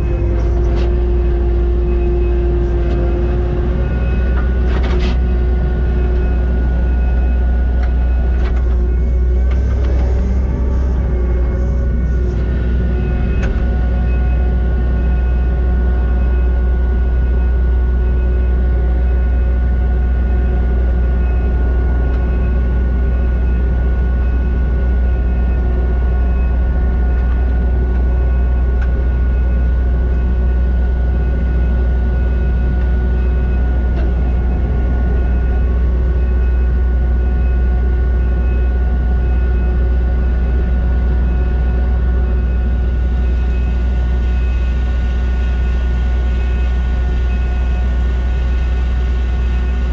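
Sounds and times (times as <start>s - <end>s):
diesel engine running steadily: 0.0s - 49.9s.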